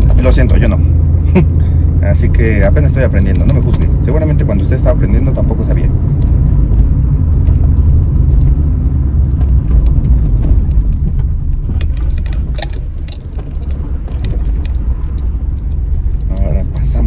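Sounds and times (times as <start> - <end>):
engine and road rumble: 0.0 - 17.0
light rattles and clicks: 2.3 - 17.0.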